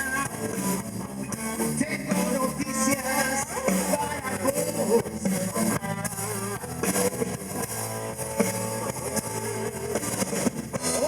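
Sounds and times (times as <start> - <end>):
blues band playing: 0.0 - 11.0
electric guitar: 0.0 - 11.0.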